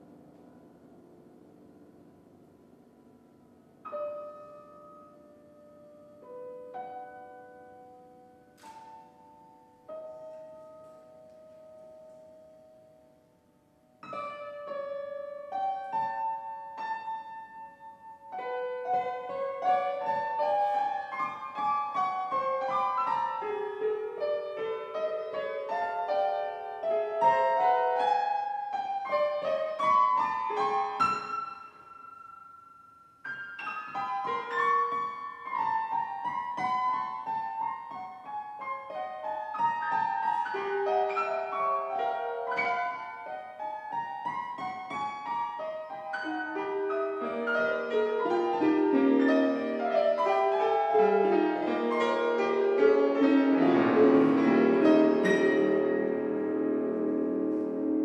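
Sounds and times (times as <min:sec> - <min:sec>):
grand piano notes: 0:00.0 - 0:58.0.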